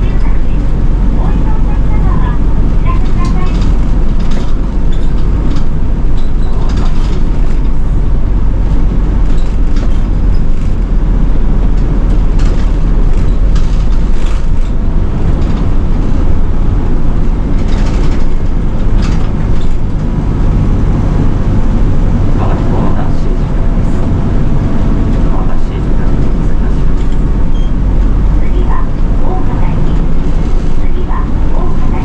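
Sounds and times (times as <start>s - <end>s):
bus body rattles and clicks: 0.0s - 32.0s
bus engine and road drone: 0.0s - 32.0s.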